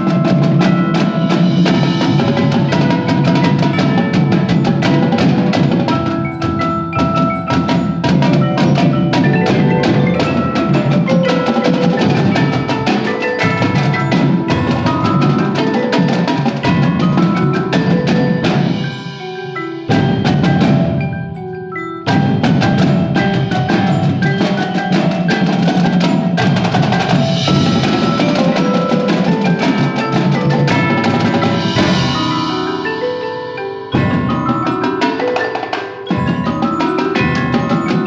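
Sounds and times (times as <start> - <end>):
drums and struck percussion: 0.0 - 38.0
mallet percussion and bells ensemble: 0.0 - 38.0.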